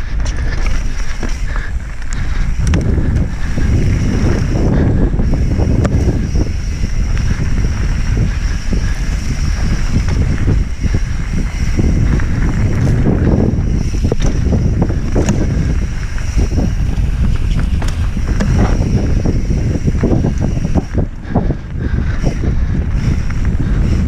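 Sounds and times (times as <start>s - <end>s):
bike rattle: 0.0s - 24.0s
wind buffeting microphone: 0.0s - 24.0s.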